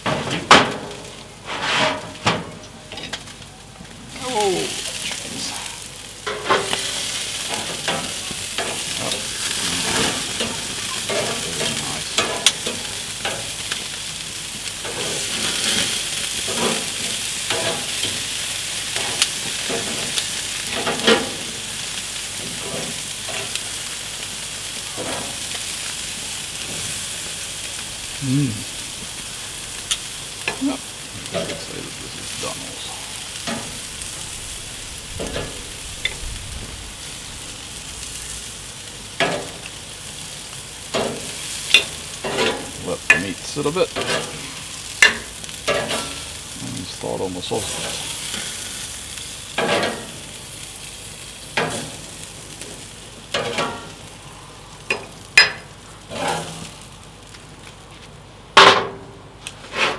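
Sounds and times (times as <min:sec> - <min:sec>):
meat sizzling on grill: 0:00.0 - 0:59.9.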